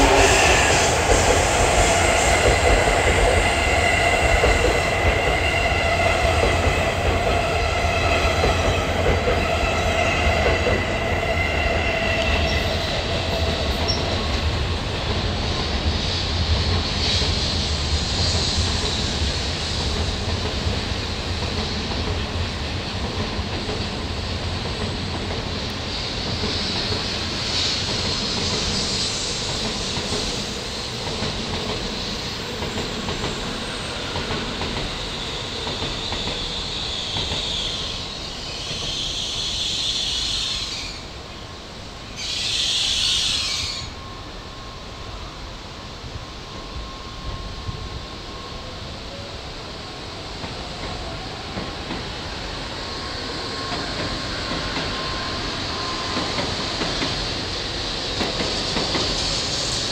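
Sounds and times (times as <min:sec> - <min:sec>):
electric train high-pitched tones: 0:00.0 - 0:14.7, 0:25.7 - 0:59.9
high-speed train rushing rumble: 0:00.0 - 0:59.9.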